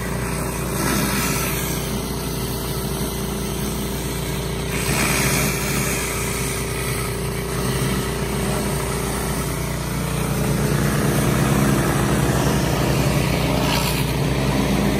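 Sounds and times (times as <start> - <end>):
pressure washer running: 0.0 - 14.9
water jet hissing on concrete: 0.0 - 14.9.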